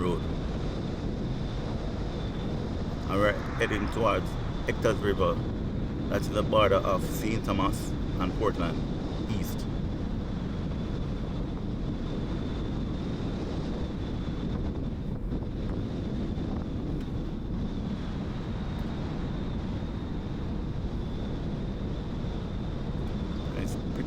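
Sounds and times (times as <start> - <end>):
faint high whine: 0.0 - 14.6, 15.3 - 24.0
car road and engine noise: 0.0 - 24.0
wind buffeting microphone: 0.0 - 24.0.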